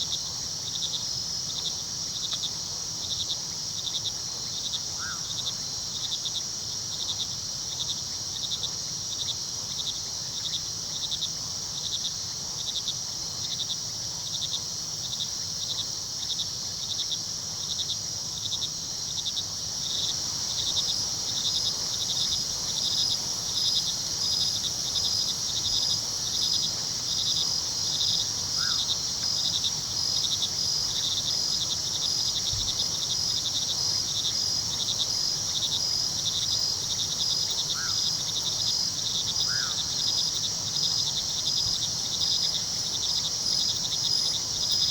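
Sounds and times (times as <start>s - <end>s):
cricket chirping: 0.0s - 44.9s
crickets trilling: 0.0s - 44.9s
higher cricket chirping: 0.0s - 44.9s.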